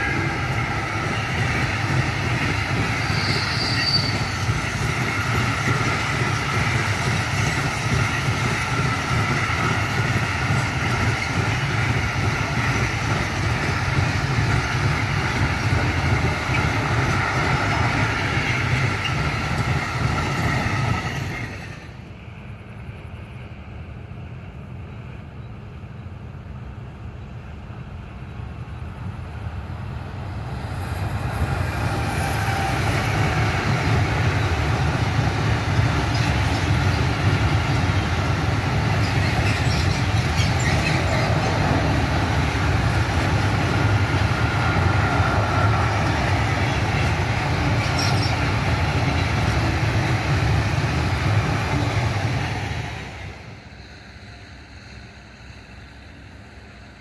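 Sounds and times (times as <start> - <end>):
train rumble: 0.0 - 57.0
train wheels on rails: 0.0 - 57.0.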